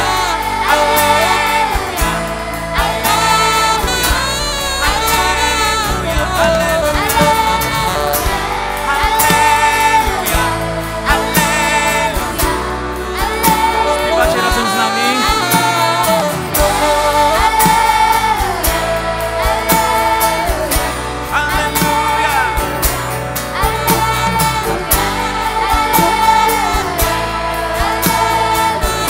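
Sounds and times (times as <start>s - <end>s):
band accompaniment: 0.0s - 29.0s
gospel choir singing: 0.0s - 29.0s.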